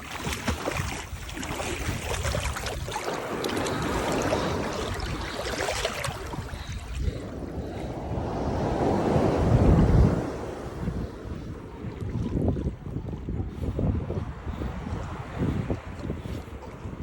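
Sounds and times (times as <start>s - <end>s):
ocean surf washing up beach: 0.0s - 17.0s
wind buffeting microphone: 0.0s - 17.0s.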